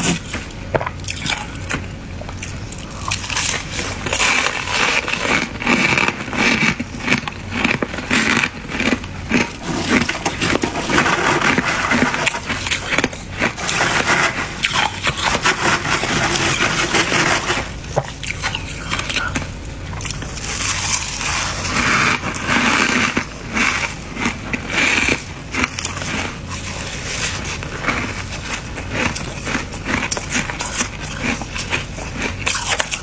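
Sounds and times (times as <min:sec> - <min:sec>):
frost being scraped: 0:03.1 - 0:19.4, 0:20.3 - 0:33.0.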